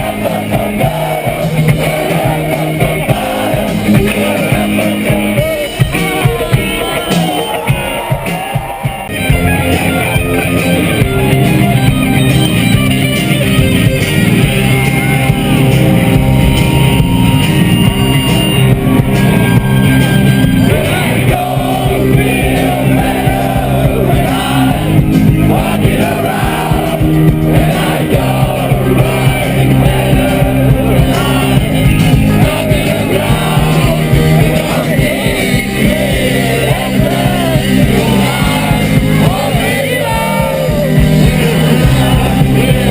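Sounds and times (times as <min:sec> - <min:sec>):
person shouting singing: 0:00.0 - 0:09.2, 0:16.4 - 0:42.9
loud rock music: 0:00.0 - 0:42.9.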